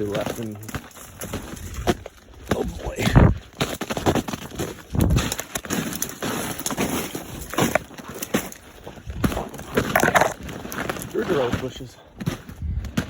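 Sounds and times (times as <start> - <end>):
footsteps crunching through icy snow: 0.0 - 13.0.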